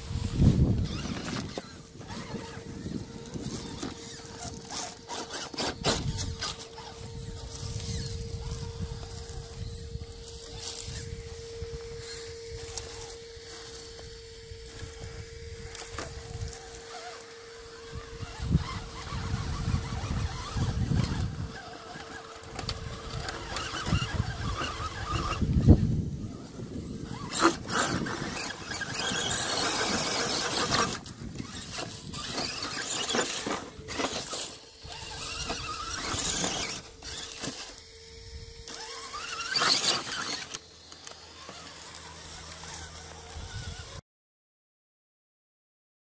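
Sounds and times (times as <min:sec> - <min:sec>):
rc car motor whining: 0:00.0 - 0:44.0
scraping and rustling: 0:00.2 - 0:37.8, 0:38.7 - 0:44.0.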